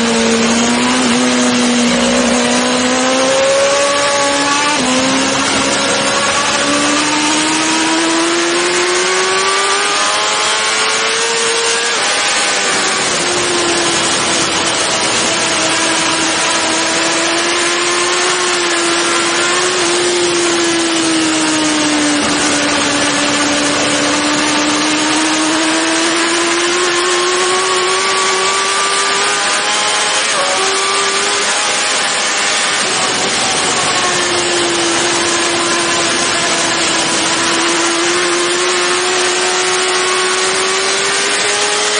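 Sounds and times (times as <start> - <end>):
motorcycle engine at high revs: 0.0 - 41.9.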